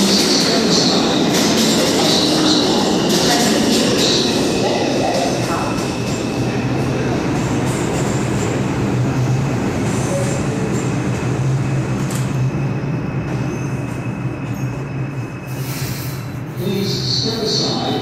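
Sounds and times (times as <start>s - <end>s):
subway train humming: 0.0s - 18.0s.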